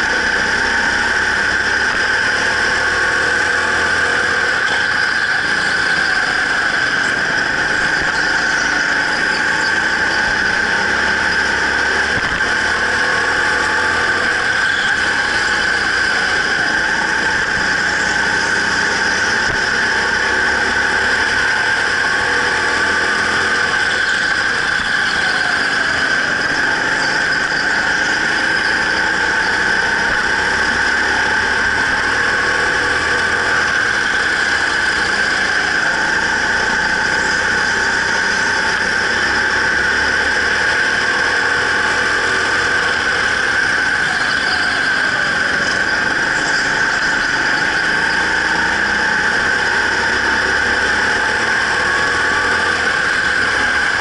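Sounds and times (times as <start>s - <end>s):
go-kart engine whine: 0.0s - 54.0s.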